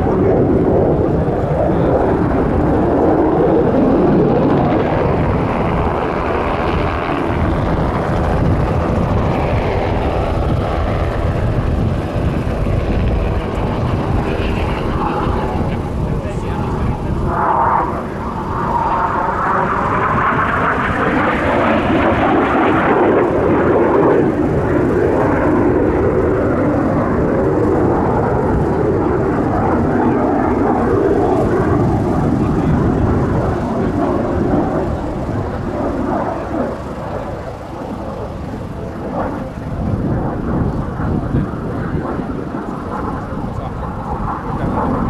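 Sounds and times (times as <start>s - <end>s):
jets flying past: 0.0s - 45.0s.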